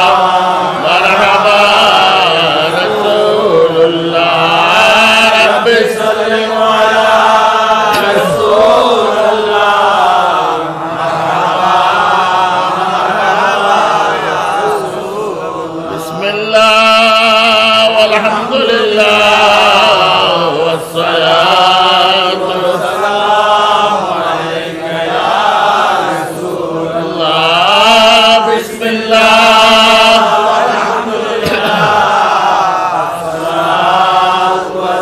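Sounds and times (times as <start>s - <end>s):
men chanting: 0.0s - 35.0s.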